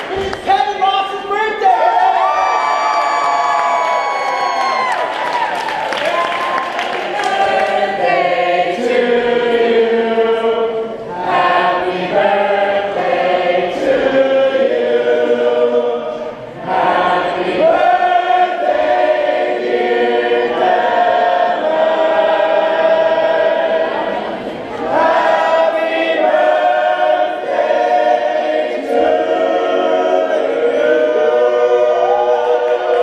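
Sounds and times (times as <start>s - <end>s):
vocal group singing in harmony: 6.4s - 33.0s.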